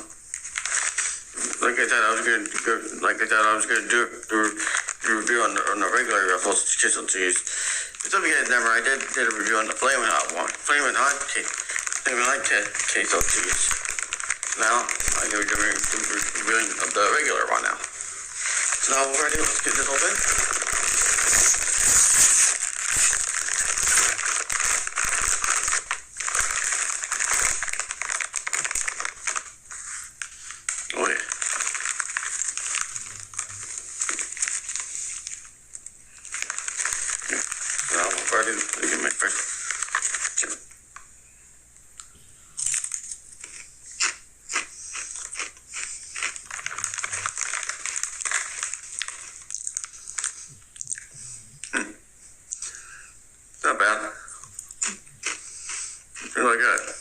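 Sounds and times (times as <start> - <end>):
chip bag crinkling: 0.0 - 40.8, 42.6 - 51.1, 54.5 - 57.0.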